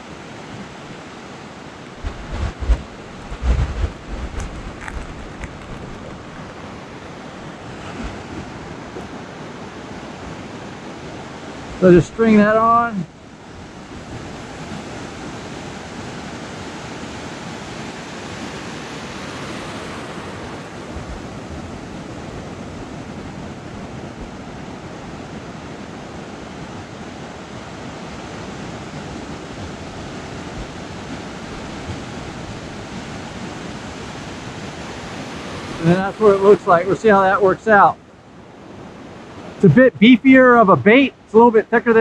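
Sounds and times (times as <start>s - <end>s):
ocean surf on a beach: 0.0s - 42.0s.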